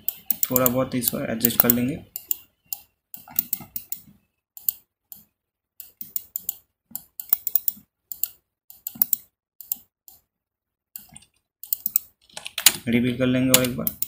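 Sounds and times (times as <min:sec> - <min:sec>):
mouse and keyboard clicking: 0:00.0 - 0:10.2, 0:11.0 - 0:12.8, 0:13.5 - 0:14.0.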